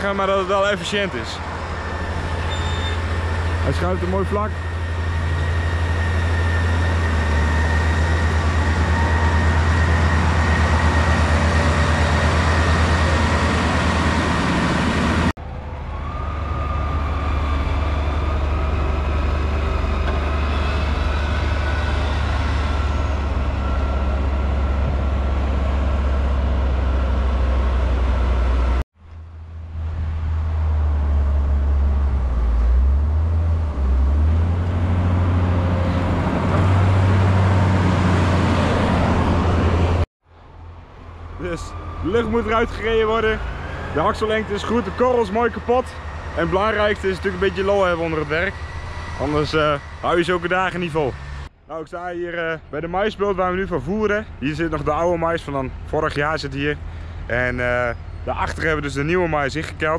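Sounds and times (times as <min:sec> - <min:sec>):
loader engine revving: 0:00.0 - 0:28.8, 0:29.4 - 0:40.1, 0:40.9 - 0:51.5
heavy diesel engines droning: 0:00.0 - 0:59.9.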